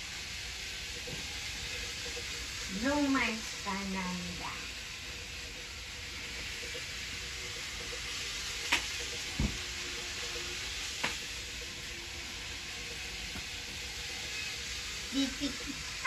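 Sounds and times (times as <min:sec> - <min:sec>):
indoor room noise hiss: 0:00.0 - 0:16.0.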